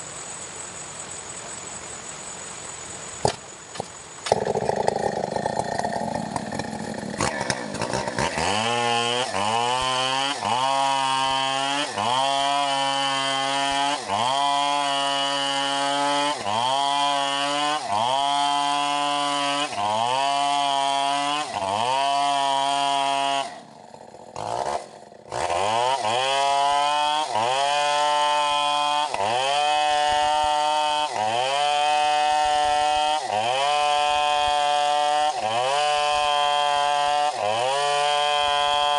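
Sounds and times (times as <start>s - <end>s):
chainsaw cutting under load: 3.2s - 38.9s.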